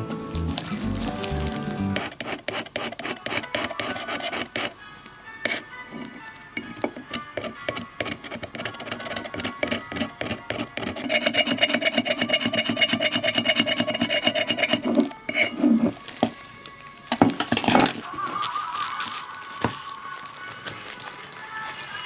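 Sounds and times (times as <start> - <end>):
abrasive rubbing on ceramic: 0.3 - 19.8.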